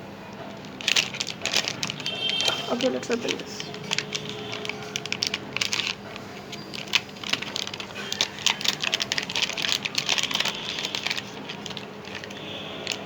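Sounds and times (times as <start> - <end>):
packaging clicks and crinkles: 0.2 - 13.0.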